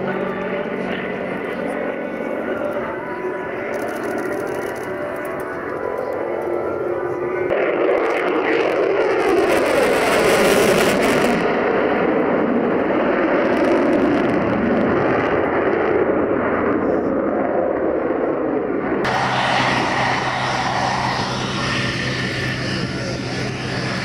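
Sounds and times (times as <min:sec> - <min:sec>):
jet afterburner roar: 0:00.0 - 0:24.0
jet engine hum and whine: 0:00.0 - 0:24.0.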